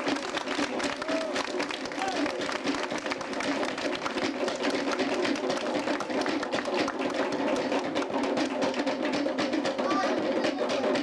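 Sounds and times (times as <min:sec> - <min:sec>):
crowd murmuring: 0:00.0 - 0:08.8
fast dense drumming: 0:00.0 - 0:11.0.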